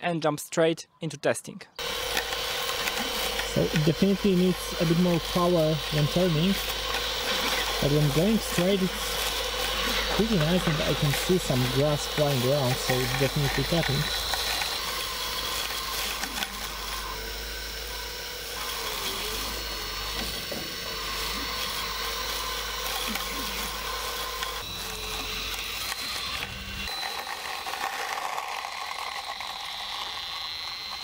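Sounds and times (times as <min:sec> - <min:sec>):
robot lawn mower whirring: 0:01.8 - 0:31.0.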